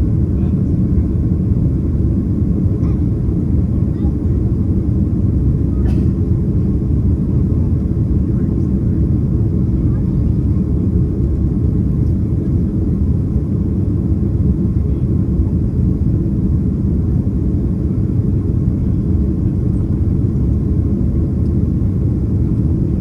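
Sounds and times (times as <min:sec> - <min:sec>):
jet engines and airflow rumble: 0:00.0 - 0:23.0.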